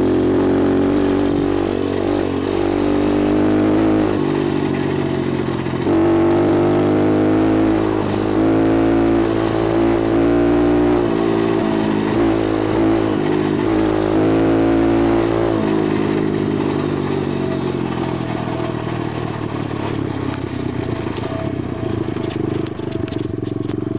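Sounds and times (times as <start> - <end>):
dirt bike engine running: 0.0 - 23.9.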